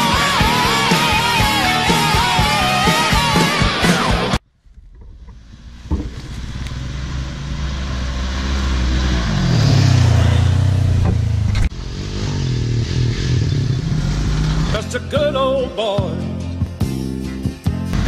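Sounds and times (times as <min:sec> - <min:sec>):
atv engine: 0:00.0 - 0:15.4
side-by-side engine driving: 0:00.0 - 0:15.7.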